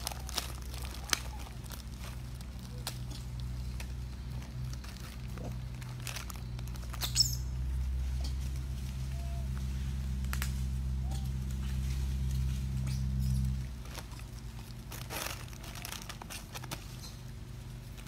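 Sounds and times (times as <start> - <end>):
low hum: 0.0 - 18.0
monkeys rustling and scuffing: 0.0 - 18.0.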